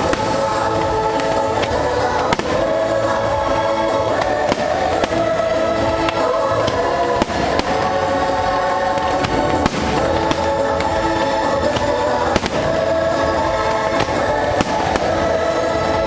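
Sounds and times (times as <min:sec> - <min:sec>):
fireworks bangs: 0:00.0 - 0:16.0
orchestral music with choir: 0:00.0 - 0:16.0.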